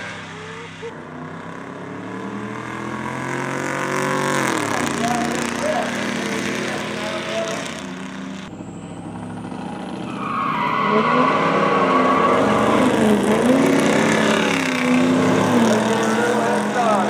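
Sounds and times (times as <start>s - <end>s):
distant truck engines: 0.0s - 17.0s
truck engines at full throttle: 0.0s - 17.0s.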